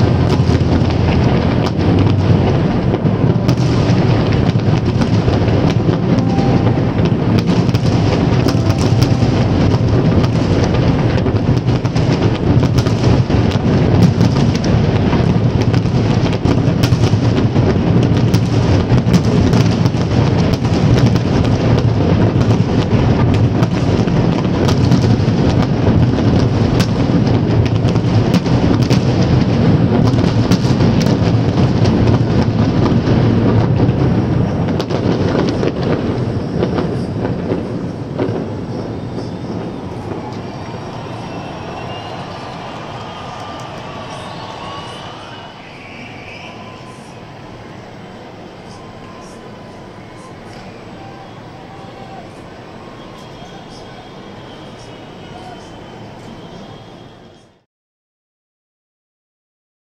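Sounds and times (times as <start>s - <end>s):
fireworks booming: 0.0s - 49.4s
fireworks crackling: 0.0s - 51.6s.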